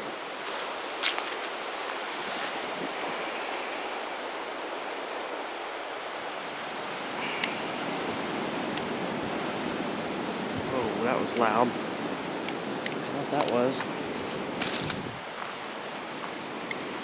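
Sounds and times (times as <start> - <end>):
strong wind through forest: 0.0 - 17.0.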